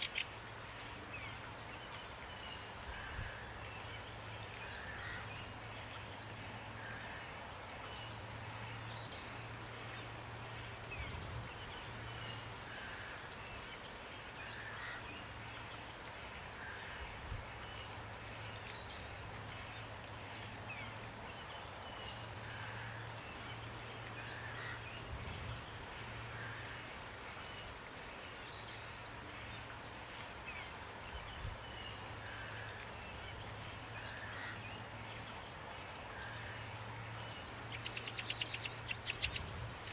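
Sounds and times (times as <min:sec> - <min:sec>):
rain hiss: 0:00.0 - 0:39.9
songbirds chirping: 0:00.0 - 0:39.9.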